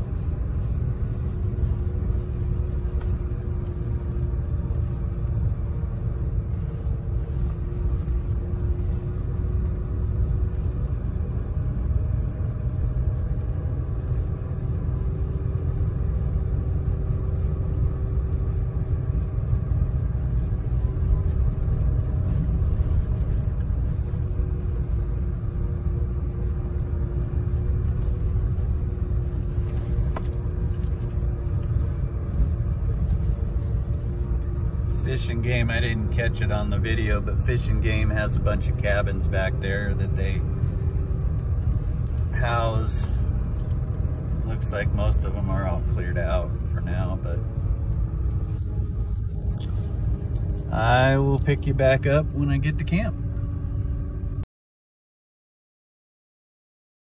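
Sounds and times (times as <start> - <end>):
faint engine hum: 0.0 - 54.5
vehicle road rumble: 0.0 - 54.5.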